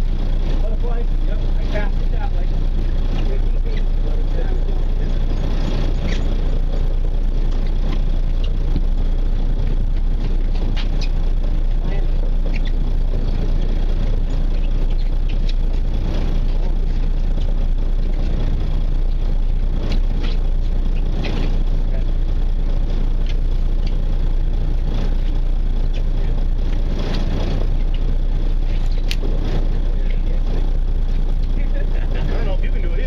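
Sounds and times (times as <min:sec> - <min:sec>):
boat engine rumbling: 0:00.0 - 0:33.0.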